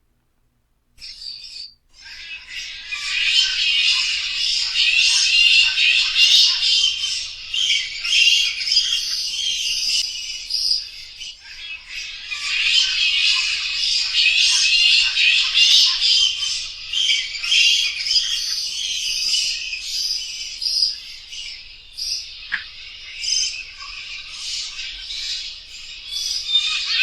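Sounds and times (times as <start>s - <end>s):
bats squeaking and chittering: 1.0s - 27.0s.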